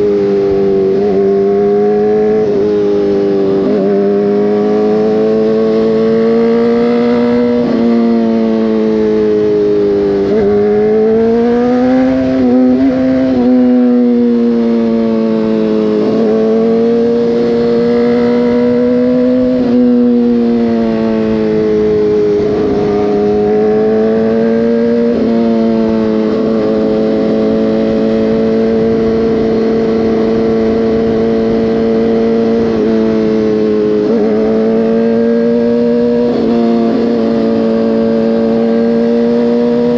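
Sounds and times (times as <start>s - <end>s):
motorcycle engine shifting gears: 0.0s - 39.9s
wind noise: 0.0s - 39.9s.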